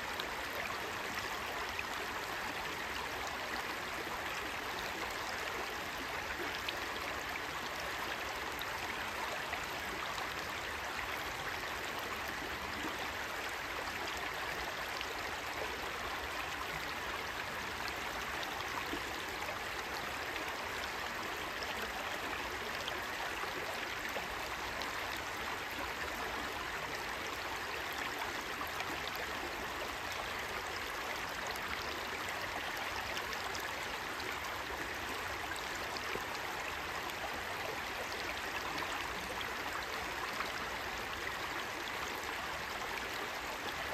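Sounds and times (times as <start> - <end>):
stream babbling over stones: 0.1 - 43.9.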